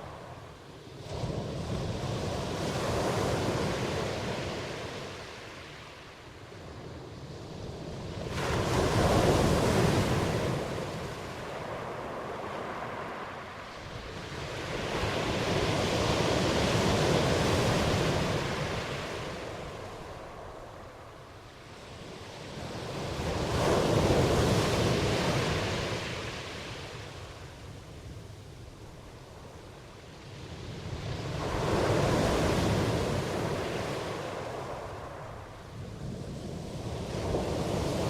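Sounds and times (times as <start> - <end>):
ocean waves rushing in: 0.0 - 38.0.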